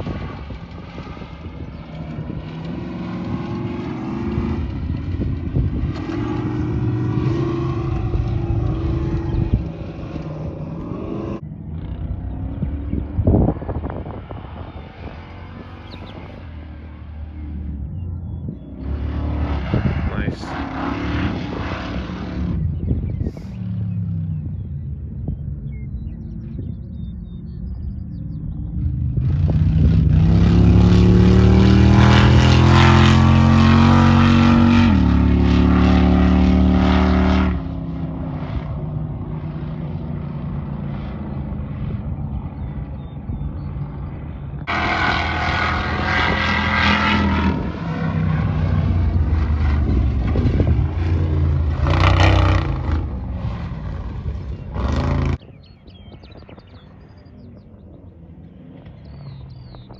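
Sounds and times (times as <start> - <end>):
off-road engines at full throttle: 0.0 - 59.9.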